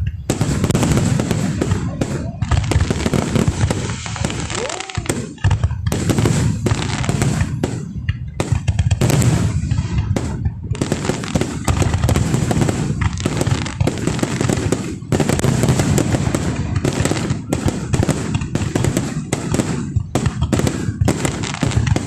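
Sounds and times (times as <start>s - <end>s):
fireworks booming: 0.0s - 22.0s
fireworks crackling: 0.0s - 22.0s.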